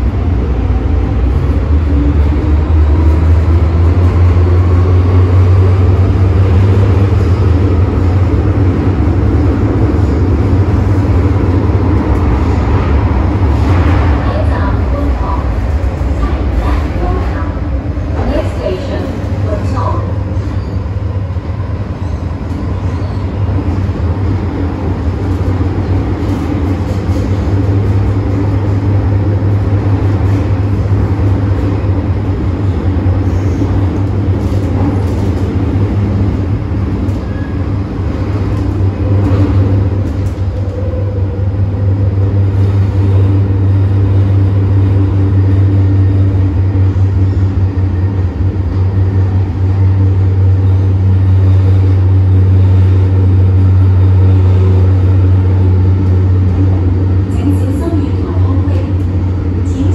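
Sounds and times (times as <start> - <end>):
train rumbling in tunnel: 0.0 - 59.9.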